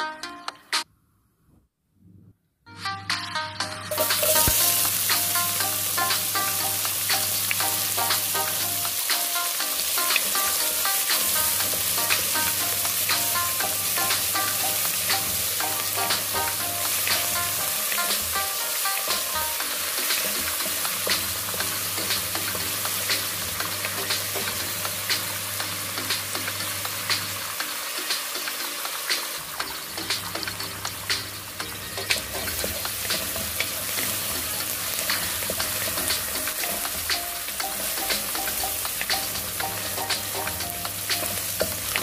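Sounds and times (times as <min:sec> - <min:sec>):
onion sizzling in hot oil: 0:03.9 - 0:42.0.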